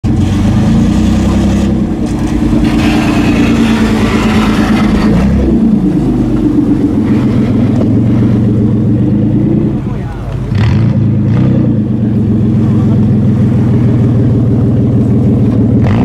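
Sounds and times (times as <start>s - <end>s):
car engine and exhaust running: 0.0s - 16.0s.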